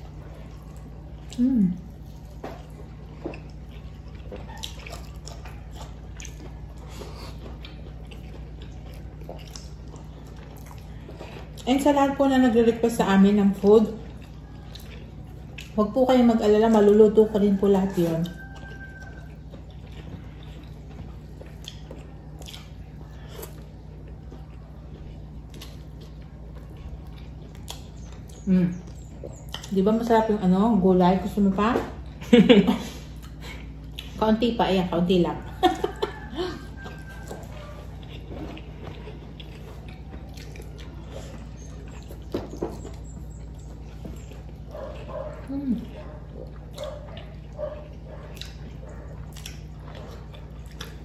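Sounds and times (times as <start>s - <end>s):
people chewing: 0.0s - 51.0s
steady low hum: 0.0s - 51.0s.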